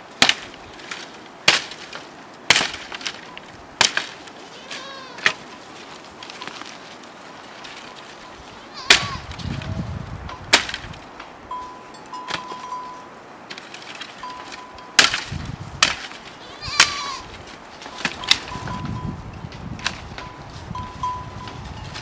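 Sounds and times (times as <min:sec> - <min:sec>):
dry branches snapping: 0:00.0 - 0:11.4, 0:13.4 - 0:20.7
dry brush rustling: 0:00.0 - 0:22.0.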